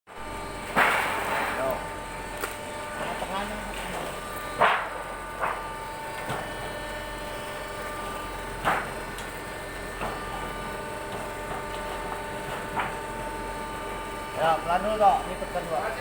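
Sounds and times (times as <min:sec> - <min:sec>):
machine humming: 0:00.1 - 0:16.0.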